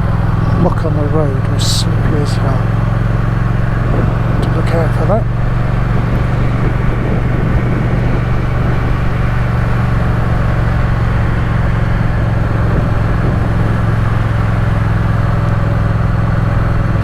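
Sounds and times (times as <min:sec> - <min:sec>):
motorcycle engine droning: 0:00.0 - 0:17.0
wind and road noise: 0:00.0 - 0:17.0.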